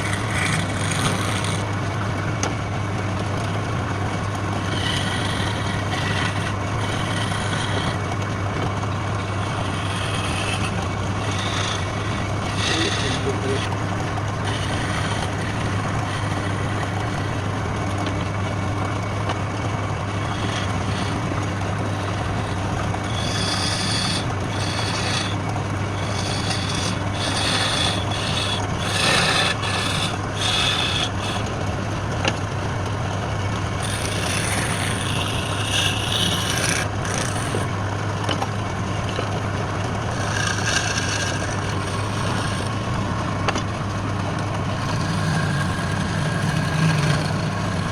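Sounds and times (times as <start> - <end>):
scraping and rasping wood: 0.0 - 32.6, 33.4 - 47.9
wood lathe humming: 0.0 - 47.9.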